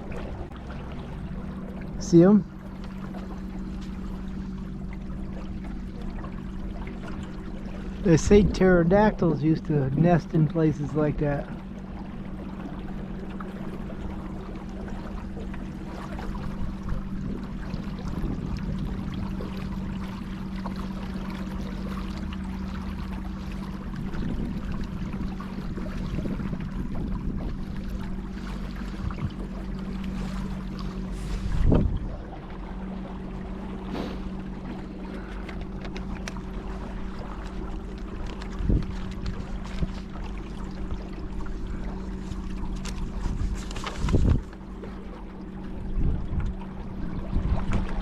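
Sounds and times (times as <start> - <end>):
electric boat motor humming: 0.0 - 48.0
water splashing along hull: 0.0 - 48.0.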